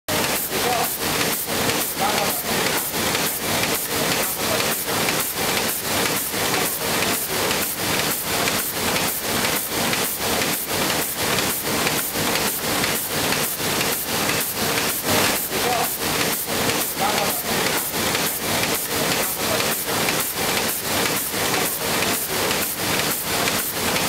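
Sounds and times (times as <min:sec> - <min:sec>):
printing press clattering: 0:00.1 - 0:24.0.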